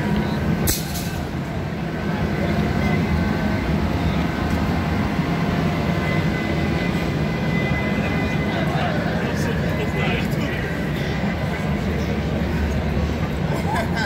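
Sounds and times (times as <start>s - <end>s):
crowd: 0.0s - 14.0s
traffic: 0.0s - 14.0s.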